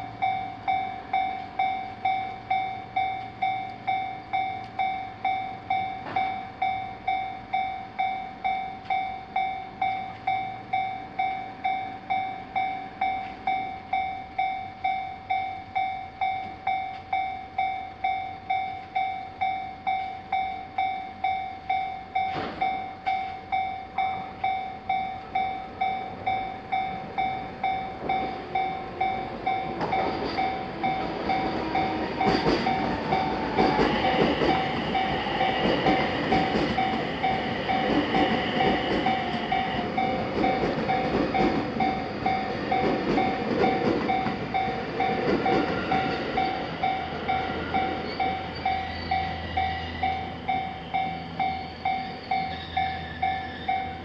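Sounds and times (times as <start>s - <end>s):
high steady tone: 0.0s - 54.0s
level-crossing alarm bell: 0.0s - 54.0s
train rumble and wheel clatter: 0.0s - 54.0s.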